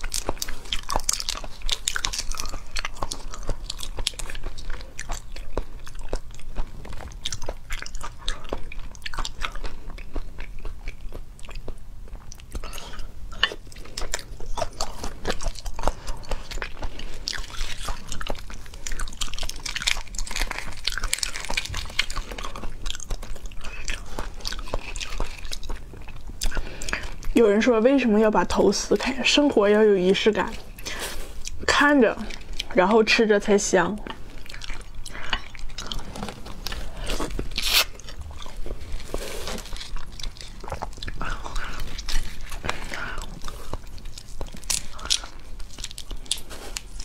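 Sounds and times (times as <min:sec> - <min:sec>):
wet crackly chewing: 0:00.0 - 0:47.0.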